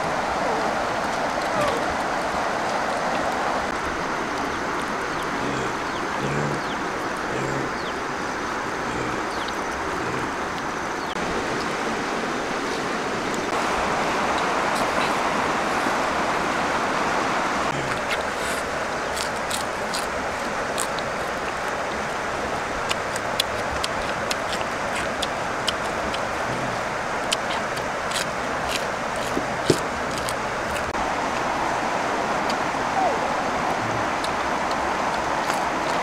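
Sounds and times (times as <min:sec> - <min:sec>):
rushing outdoor background noise: 0:00.0 - 0:36.0.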